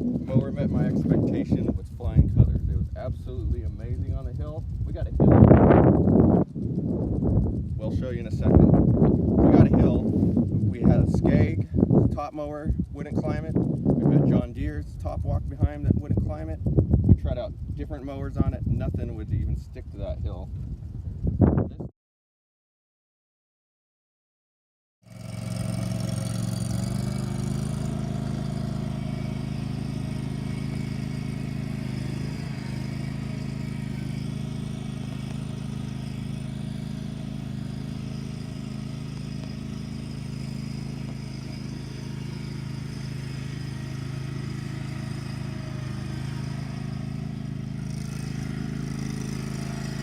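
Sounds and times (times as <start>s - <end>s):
lawn mower engine droning: 0.0s - 21.2s, 25.0s - 50.0s.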